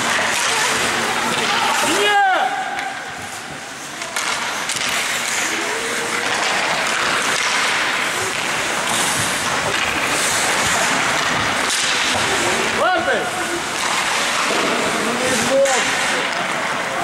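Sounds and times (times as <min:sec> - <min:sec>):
busy rink noise: 0:00.0 - 0:17.0
skate blades scraping ice: 0:00.0 - 0:17.0.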